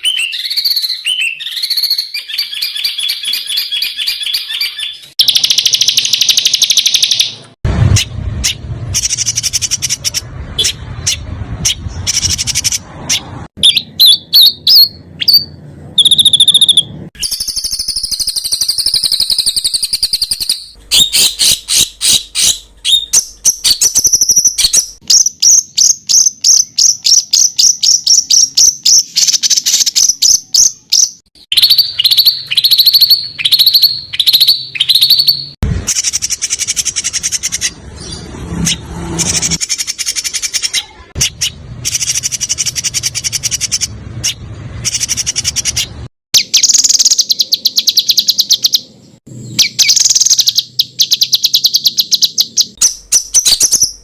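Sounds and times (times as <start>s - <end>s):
songbirds singing sharp repeated notes: 0.0s - 54.0s.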